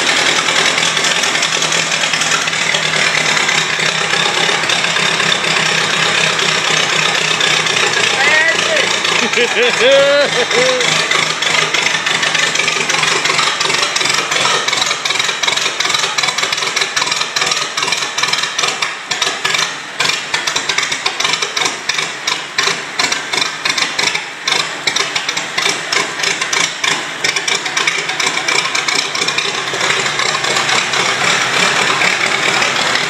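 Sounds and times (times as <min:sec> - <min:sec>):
tractor engine running unevenly: 0:00.0 - 0:33.0.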